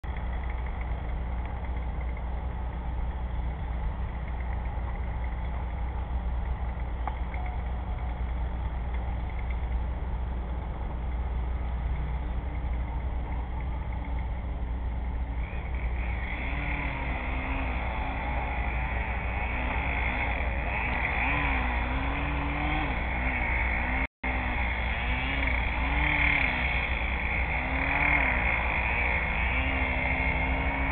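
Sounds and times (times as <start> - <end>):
distant engine drone: 0.0 - 30.9
steady low hum: 0.0 - 30.9.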